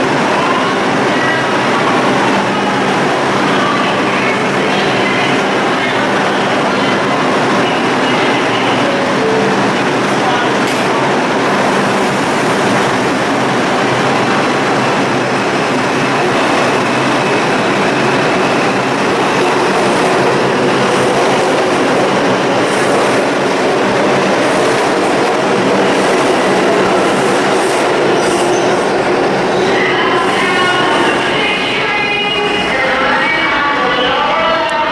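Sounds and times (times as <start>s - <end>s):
subway train wheels rumbling on rails: 0.0s - 34.9s.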